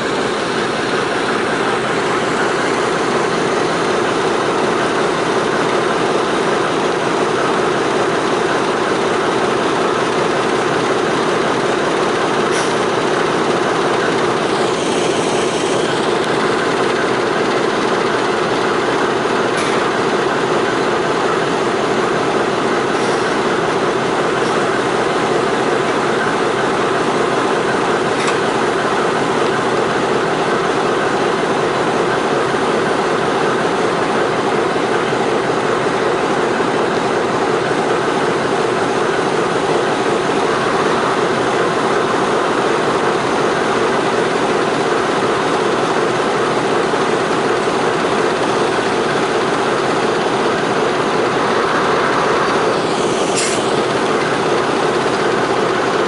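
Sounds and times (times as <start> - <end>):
locomotive engine idling: 0.0 - 56.0.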